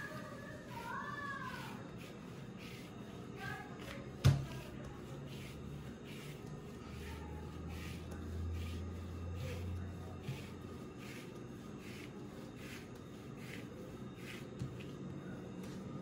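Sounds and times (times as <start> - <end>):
hands rolling dough: 0.0 - 16.0.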